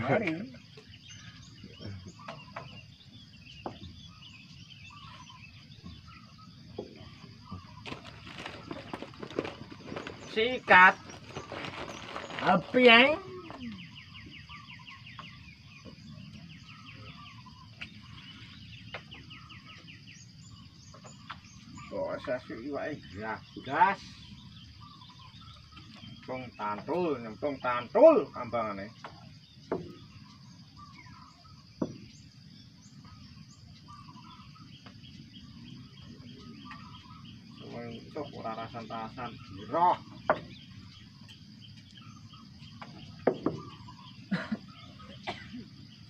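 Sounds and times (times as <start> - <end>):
birds calling: 0.0 - 46.0
high insect drone: 0.0 - 46.0.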